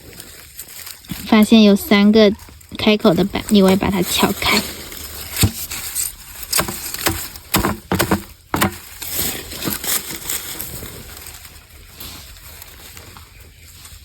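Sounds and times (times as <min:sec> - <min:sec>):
rustling and crunching: 0:00.0 - 0:14.0.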